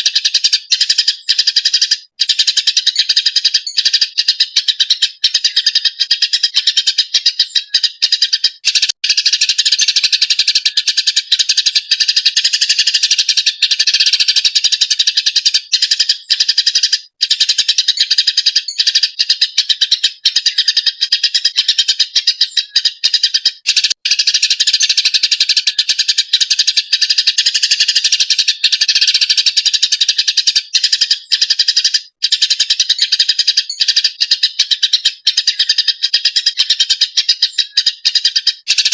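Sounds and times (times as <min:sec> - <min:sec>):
sparrows chirping rapidly: 0:00.0 - 0:38.9.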